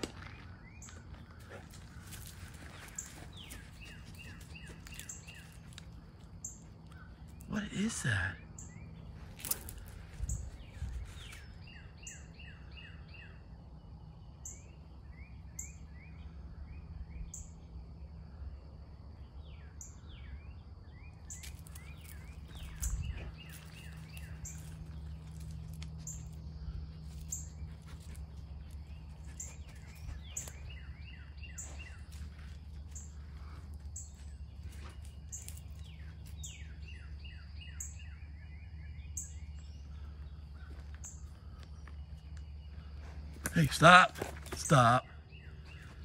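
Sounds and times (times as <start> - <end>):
songbirds chirping: 0.0 - 46.0.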